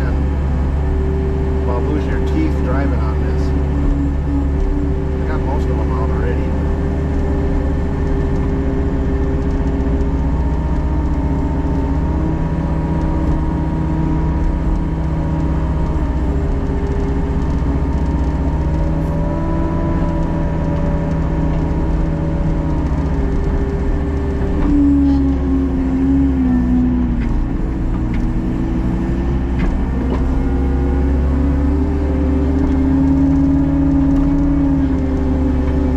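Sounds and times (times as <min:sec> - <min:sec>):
diesel engine running under load: 0:00.0 - 0:35.9
loud whining tone: 0:00.0 - 0:35.9.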